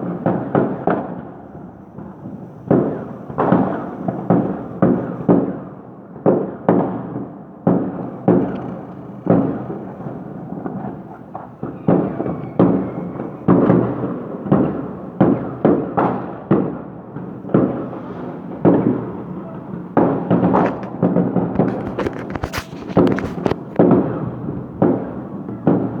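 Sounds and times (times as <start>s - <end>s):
fireworks bangs with echo: 0.0s - 26.0s.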